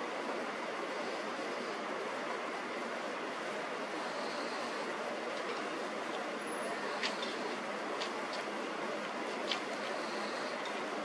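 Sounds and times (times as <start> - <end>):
distant city traffic hiss: 0.0 - 11.0.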